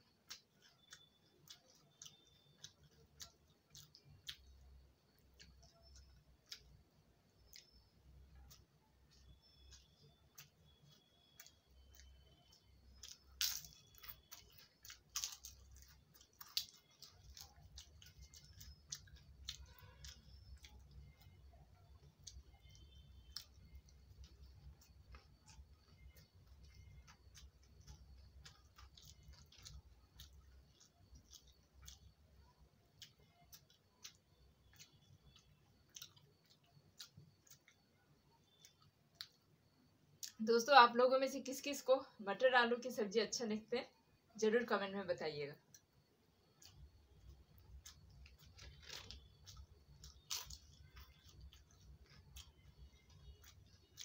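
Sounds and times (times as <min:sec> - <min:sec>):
quiet chewing and mouth clicks: 0:00.0 - 0:40.4, 0:45.6 - 0:54.0.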